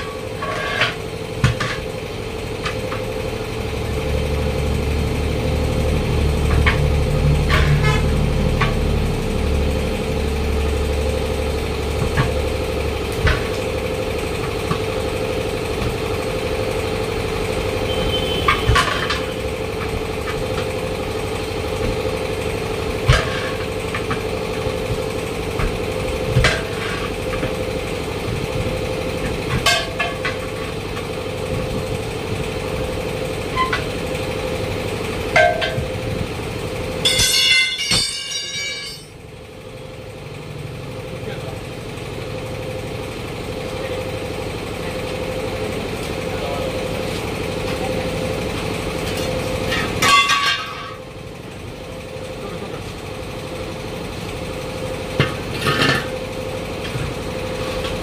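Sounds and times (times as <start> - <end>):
deep engine rumble: 0.0 - 58.0
steady engine hum: 0.0 - 58.0.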